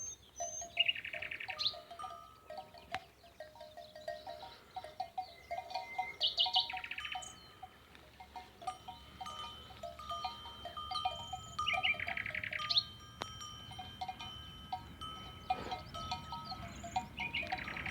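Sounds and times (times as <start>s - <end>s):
small bells clinking: 0.0s - 17.9s
songbirds singing: 0.0s - 17.9s.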